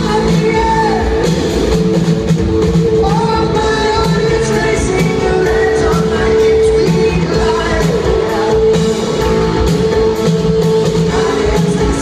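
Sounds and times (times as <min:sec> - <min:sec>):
man singing lead vocals: 0:00.0 - 0:01.8, 0:02.7 - 0:12.0
bass guitar: 0:00.0 - 0:12.0
distorted electric guitars: 0:00.0 - 0:12.0
drums: 0:00.0 - 0:12.0.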